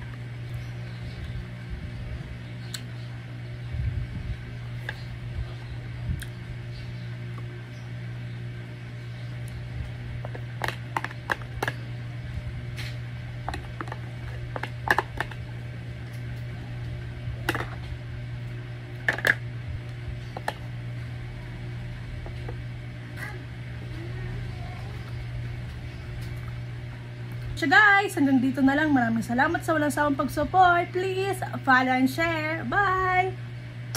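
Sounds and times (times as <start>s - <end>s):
low hum: 0.0s - 33.9s.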